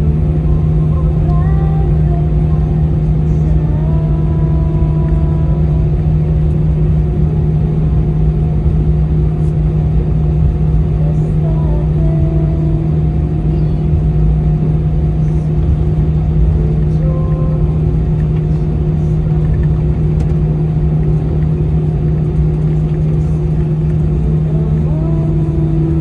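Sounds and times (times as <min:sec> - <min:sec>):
airflow over fuselage: 0:00.0 - 0:26.0
constant low hum: 0:00.0 - 0:26.0
jet engine drone: 0:00.0 - 0:26.0.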